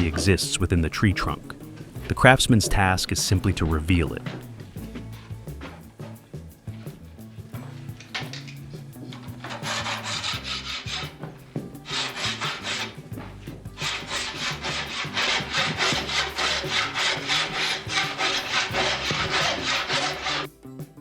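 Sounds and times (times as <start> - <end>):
hand saw cutting wood: 0.0 - 7.0, 7.6 - 20.5.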